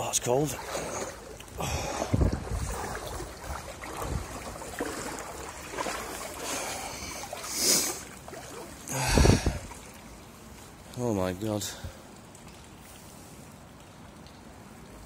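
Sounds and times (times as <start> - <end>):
water sloshing while wading: 0.0 - 15.0.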